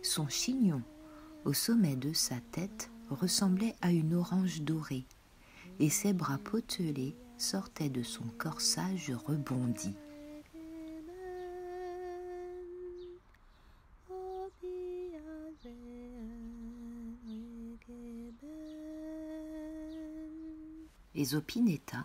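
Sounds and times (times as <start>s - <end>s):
woman humming a slow tune: 0.0s - 13.4s, 14.0s - 21.7s.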